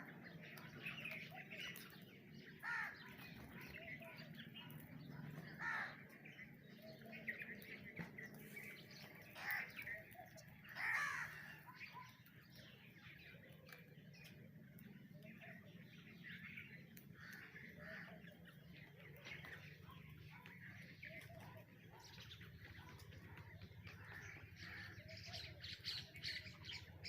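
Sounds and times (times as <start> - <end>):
birds calling and chirping: 0.0 - 27.0
harsh bird calls: 0.0 - 27.0.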